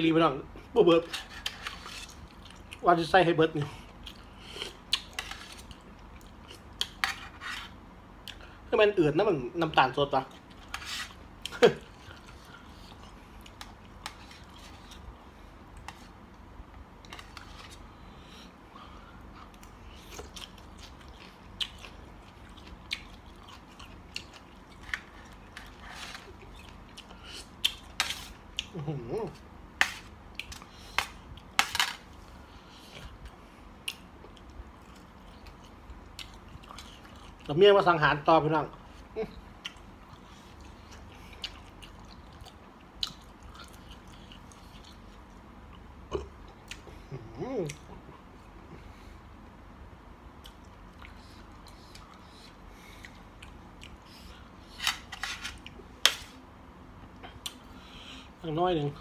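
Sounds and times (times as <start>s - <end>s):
person chewing food: 1.2s - 2.8s, 3.8s - 8.6s, 10.3s - 37.5s, 39.0s - 49.2s, 50.3s - 55.9s.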